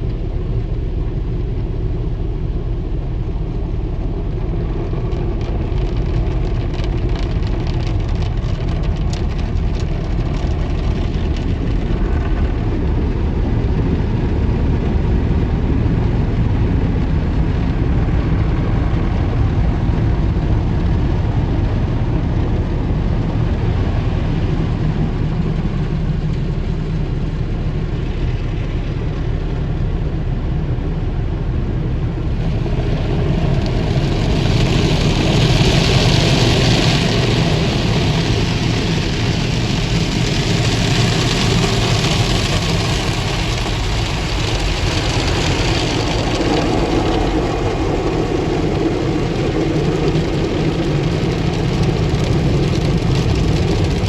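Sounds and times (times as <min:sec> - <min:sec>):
car wash low rumble: 0:00.0 - 0:54.0
crackly patter: 0:03.3 - 0:29.7, 0:31.8 - 0:54.0.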